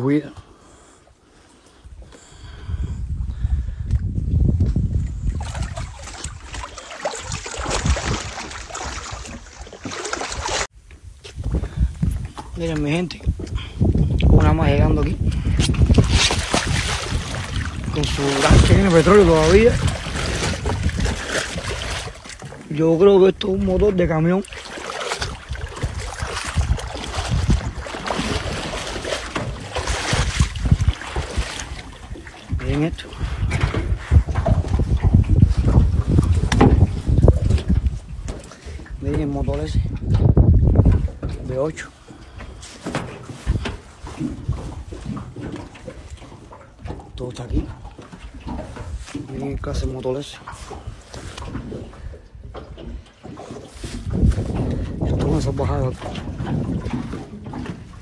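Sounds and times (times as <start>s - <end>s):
water lapping against wooden boat hull: 0.0s - 58.0s
wind buffeting microphone: 1.7s - 58.0s.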